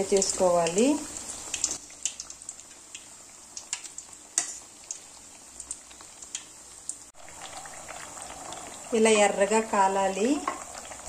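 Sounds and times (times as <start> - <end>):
hot oil sizzling and bubbling: 0.0 - 11.0
oil crackling and popping: 0.0 - 11.0.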